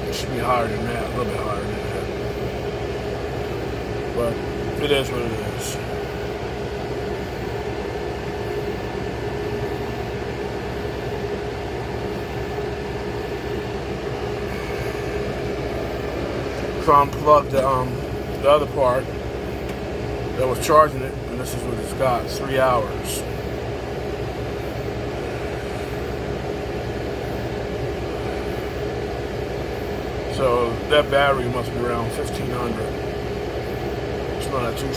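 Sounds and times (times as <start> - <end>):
air conditioner hum: 0.0 - 34.9.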